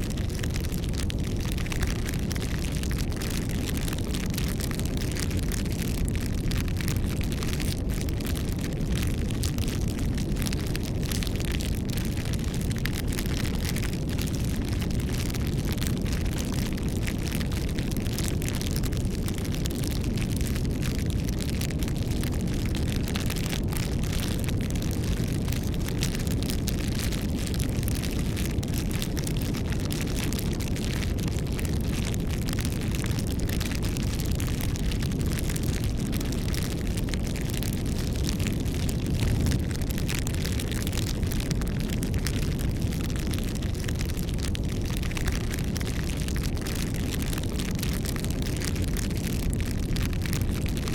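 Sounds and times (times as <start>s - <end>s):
burning wood crackling and popping: 0.0s - 50.9s
campfire flames rumbling: 0.0s - 50.9s.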